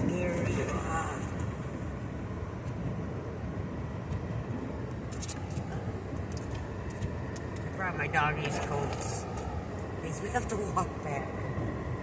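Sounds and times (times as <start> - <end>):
small vehicle engine rumbling: 0.0 - 12.0.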